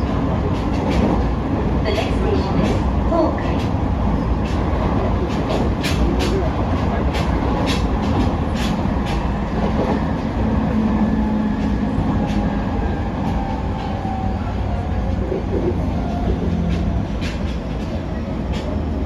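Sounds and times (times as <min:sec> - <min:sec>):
train wheels rumbling on rail: 0:00.0 - 0:19.0
wheels clicking over rail joints: 0:00.0 - 0:19.0.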